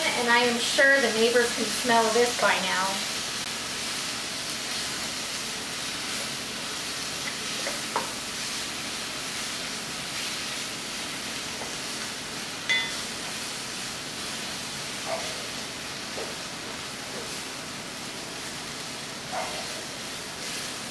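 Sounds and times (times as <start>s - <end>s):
food sizzling in a pot: 0.0s - 20.9s.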